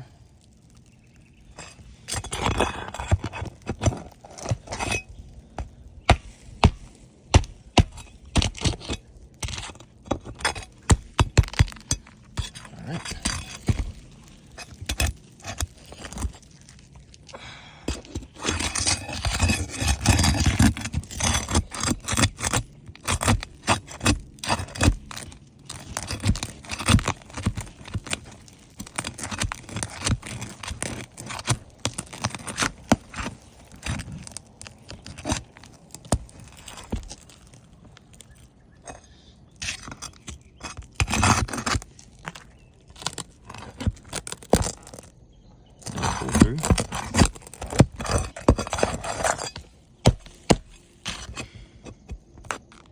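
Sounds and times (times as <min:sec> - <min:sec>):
hand tools scraping under shingles: 0:01.5 - 0:45.1, 0:45.8 - 0:52.9.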